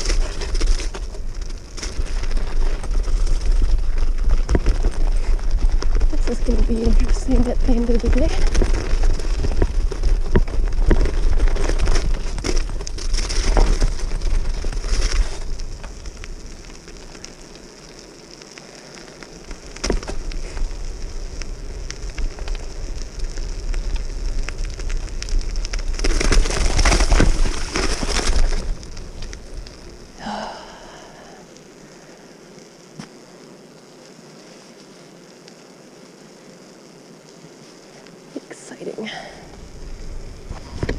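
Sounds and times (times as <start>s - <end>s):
bicycle tyres crunching on snow: 0.0s - 40.9s.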